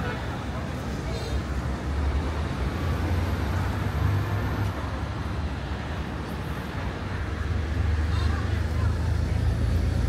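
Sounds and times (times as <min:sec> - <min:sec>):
city traffic rumble: 0:00.0 - 0:10.0
vehicles passing: 0:00.0 - 0:10.0.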